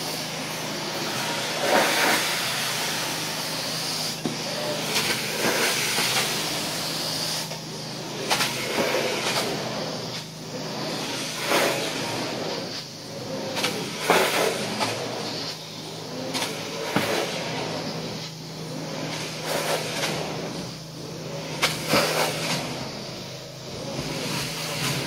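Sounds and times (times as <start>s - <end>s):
carpet extractor wand hissing: 0.0s - 25.0s.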